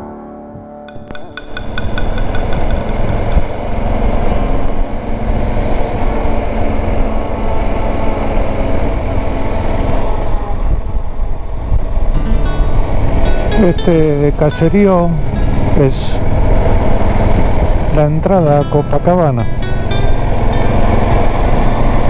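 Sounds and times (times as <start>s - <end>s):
motorcycle engine running: 0.9s - 22.0s
wind and road noise: 0.9s - 22.0s.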